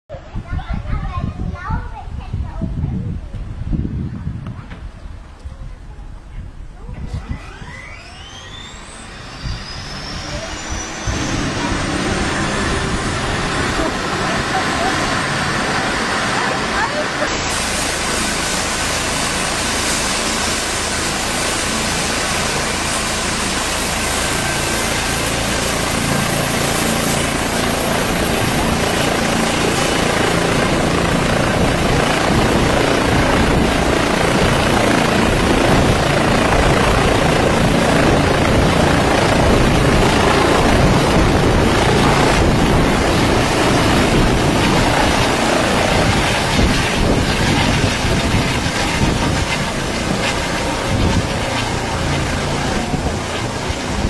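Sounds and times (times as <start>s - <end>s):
helicopter taking off: 6.7s - 54.0s.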